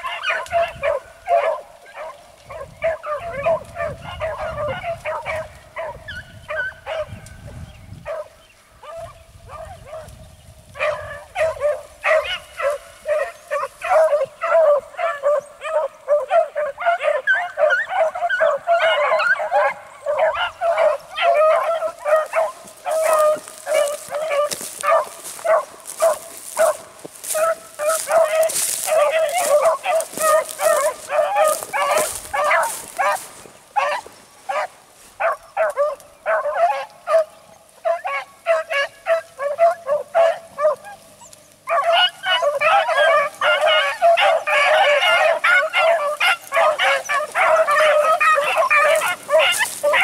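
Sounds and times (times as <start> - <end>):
hounds baying and yelping: 0.0 - 50.0.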